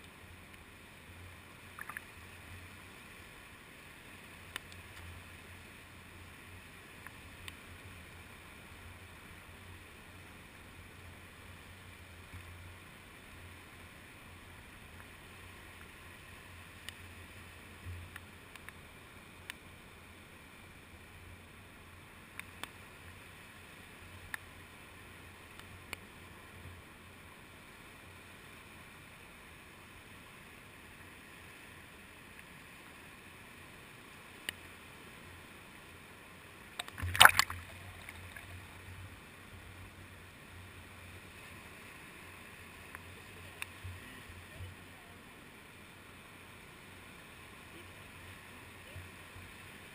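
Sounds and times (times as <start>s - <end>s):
muffled sea waves: 0.0s - 49.9s.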